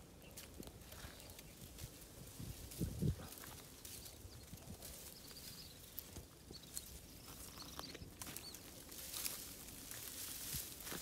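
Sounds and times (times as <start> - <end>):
twigs rustling and snapping: 0.2 - 11.0.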